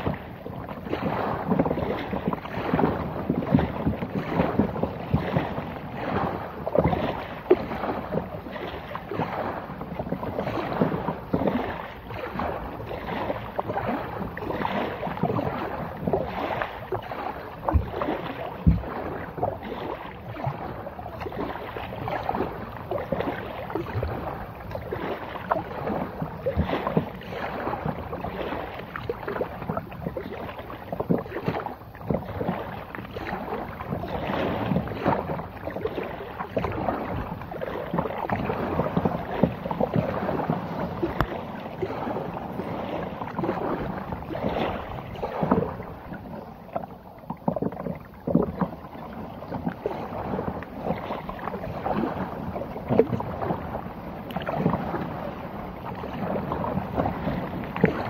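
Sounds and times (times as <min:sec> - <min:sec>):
reeds scraping along kayak hull: 0:00.0 - 0:58.0.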